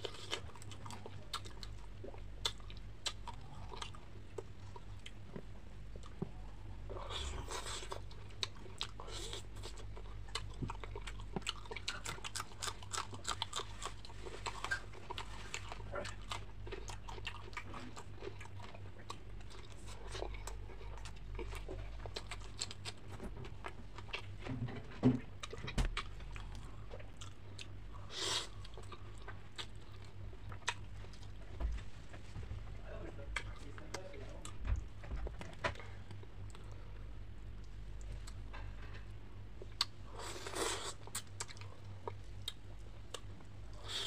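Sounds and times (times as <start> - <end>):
chewing crunchy fried fish: 0.0 - 44.0.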